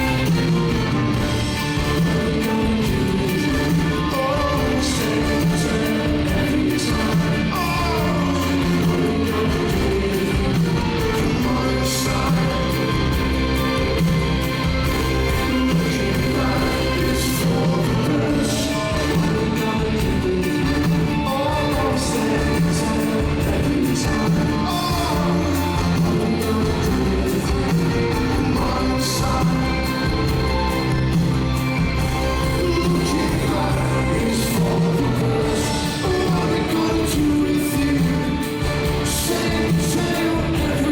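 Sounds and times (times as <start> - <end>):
live rock band playing: 0.0 - 40.9
person singing: 0.0 - 40.9.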